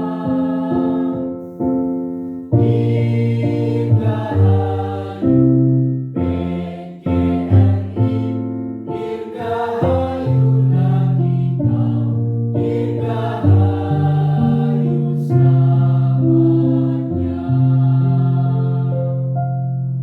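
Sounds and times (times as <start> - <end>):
children's choir singing: 0.0 - 1.5, 2.6 - 5.6, 6.2 - 19.3.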